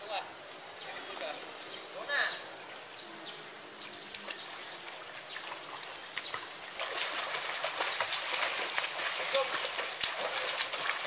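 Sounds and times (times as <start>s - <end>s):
swimmer splashing water: 0.0s - 11.0s.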